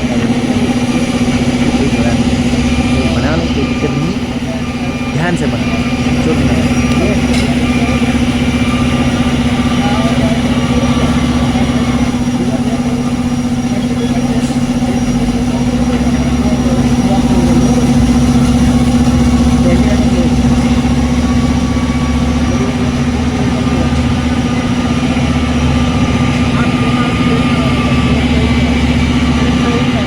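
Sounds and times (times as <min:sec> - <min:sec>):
plant machinery humming: 0:00.0 - 0:30.0.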